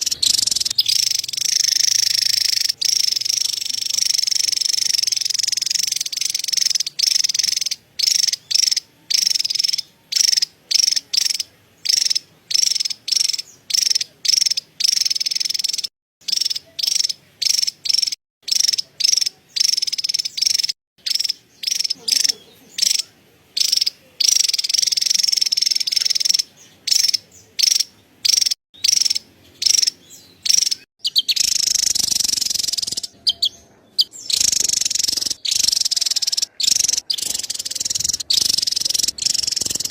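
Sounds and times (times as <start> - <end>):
bird buzzy chattering call: 0.0 - 39.9.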